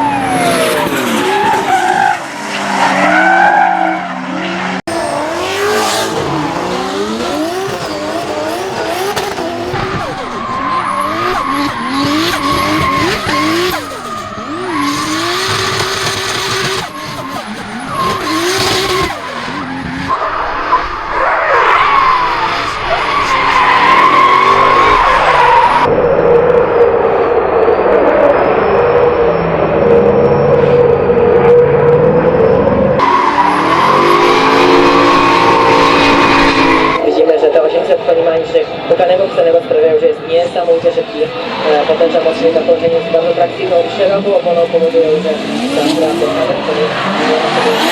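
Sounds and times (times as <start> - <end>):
car engine revving: 0.0 - 47.9
tyres skidding: 0.0 - 47.9.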